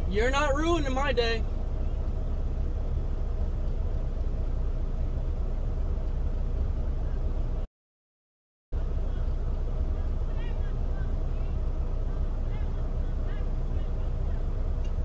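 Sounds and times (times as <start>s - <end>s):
truck engine and tyres droning: 0.0s - 7.7s, 8.8s - 15.0s.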